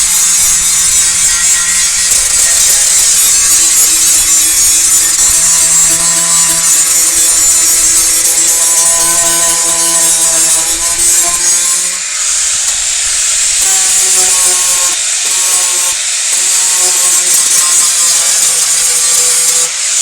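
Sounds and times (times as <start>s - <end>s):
power sander on metal panel: 0.0s - 20.0s.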